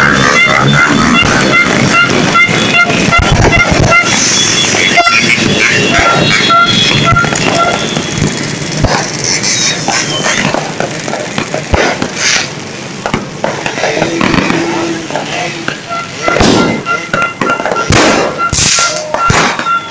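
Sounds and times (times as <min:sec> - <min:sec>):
crowd and street noise: 0:00.0 - 0:19.9
fireworks bangs and pops: 0:00.0 - 0:19.9.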